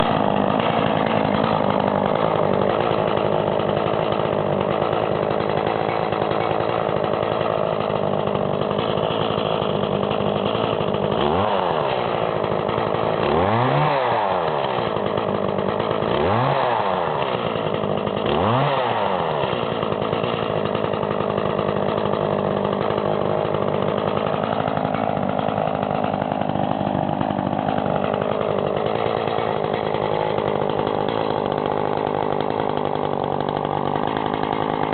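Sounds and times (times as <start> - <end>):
chainsaw idling and revving: 0.0 - 34.9.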